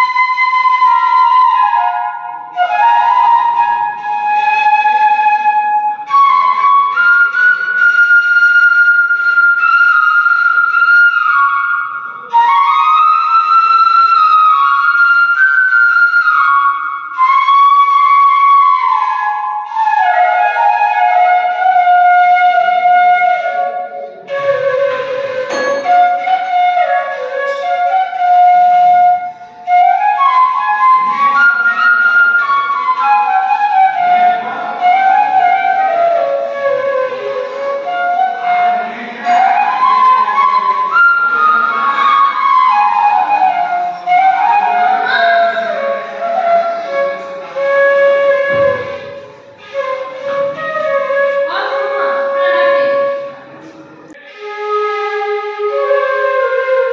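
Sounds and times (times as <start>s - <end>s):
flute-like melody: 0.0s - 56.9s.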